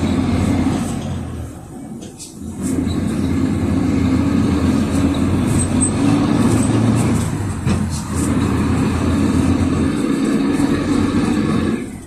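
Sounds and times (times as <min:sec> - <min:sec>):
bus body rattles: 0:00.0 - 0:12.0
diesel bus engine running: 0:00.0 - 0:12.0
road noise: 0:00.0 - 0:12.0.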